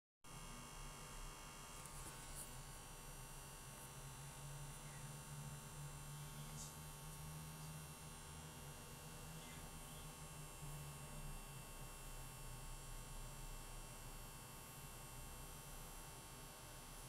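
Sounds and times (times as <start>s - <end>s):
low electrical hum: 0.3s - 17.0s.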